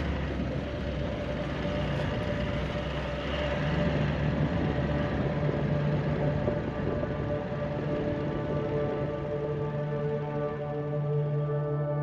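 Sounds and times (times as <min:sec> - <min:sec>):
engine drone: 0:00.0 - 0:12.0
road noise: 0:00.0 - 0:12.0.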